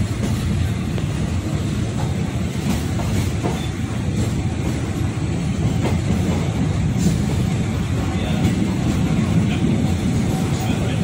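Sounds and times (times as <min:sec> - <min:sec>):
train rumbling along: 0:00.0 - 0:11.0.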